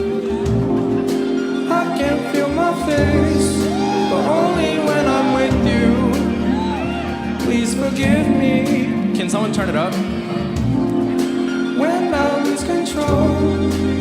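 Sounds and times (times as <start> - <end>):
bass line: 0.0 - 14.0
gliding melody line: 0.0 - 14.0.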